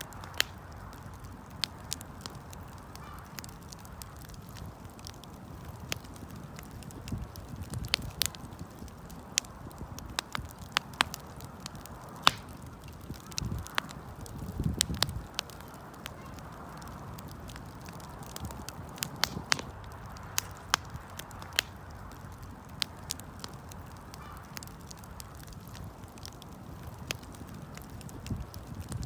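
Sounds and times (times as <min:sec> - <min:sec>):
rustle of flames: 0:00.0 - 0:29.0
wood fire crackling and popping: 0:00.0 - 0:29.0.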